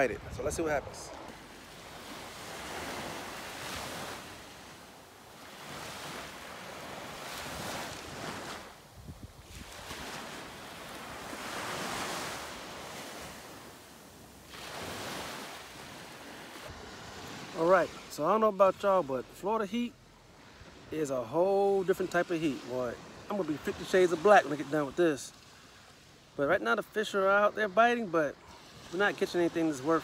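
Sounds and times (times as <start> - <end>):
surf waves breaking on a beach: 0.0 - 30.0.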